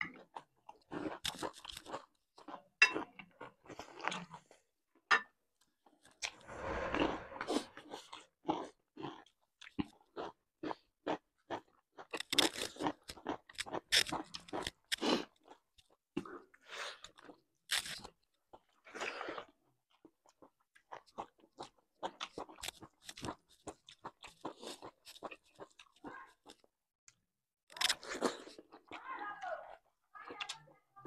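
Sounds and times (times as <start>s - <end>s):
people chewing and crunching: 0.0s - 31.0s.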